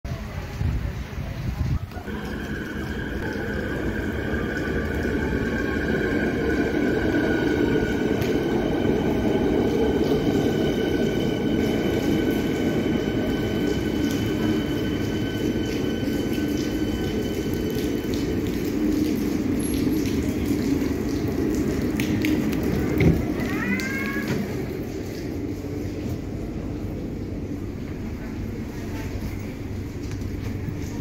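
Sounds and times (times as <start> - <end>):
high whine of train: 0.1 - 31.0
train wheels rumbling: 0.1 - 31.0.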